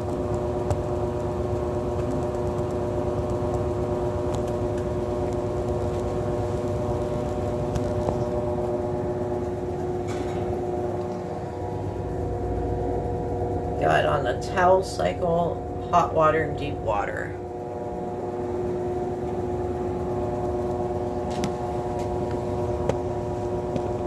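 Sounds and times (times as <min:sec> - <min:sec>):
washing machine spinning: 0:00.0 - 0:24.0.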